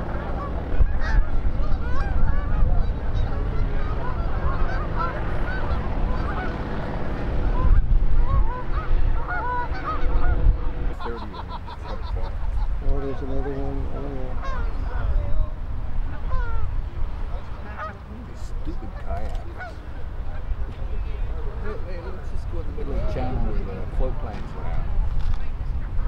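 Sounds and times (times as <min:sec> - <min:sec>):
birds honking: 0:00.0 - 0:22.3.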